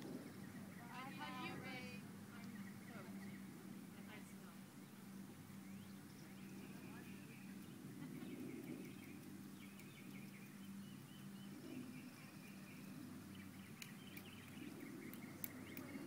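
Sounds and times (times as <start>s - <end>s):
birds chirping: 0.0s - 16.0s
low steady hum: 0.0s - 16.0s.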